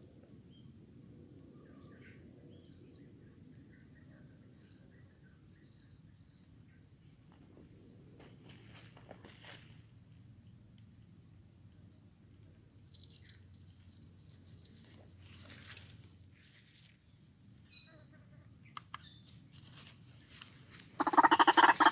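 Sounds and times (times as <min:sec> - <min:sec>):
high-pitched insect chorus: 0:00.0 - 0:21.9.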